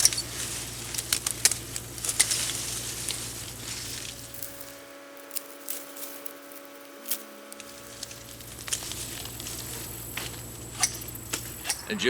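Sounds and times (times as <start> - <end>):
corn plants rustling: 0.0 - 12.0.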